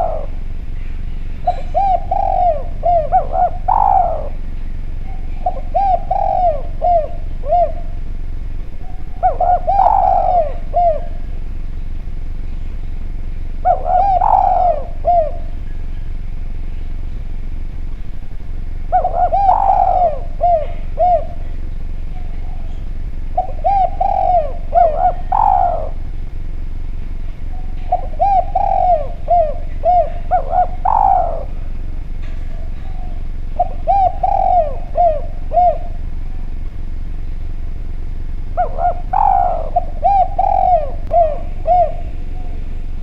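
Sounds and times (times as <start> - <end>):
dove cooing: 0.0 - 43.0
steady low hum: 0.0 - 43.0.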